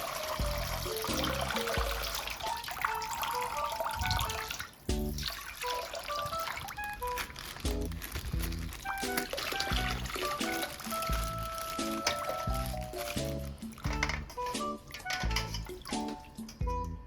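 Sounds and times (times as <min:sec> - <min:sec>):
water trickling and splashing: 0:00.0 - 0:16.7
light music: 0:00.0 - 0:17.0.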